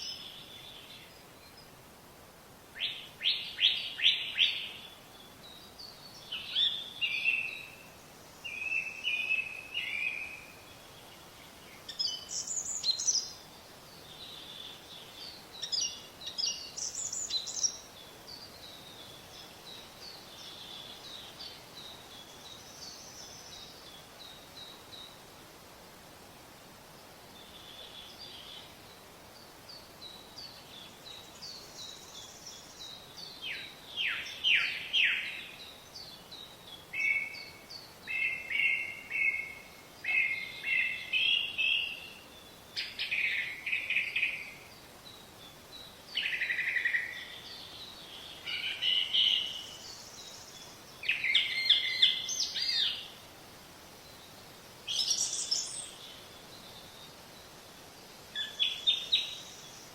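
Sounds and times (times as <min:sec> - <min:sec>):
faint steady hiss: 0:00.0 - 0:59.9
songbird singing: 0:00.0 - 0:59.9.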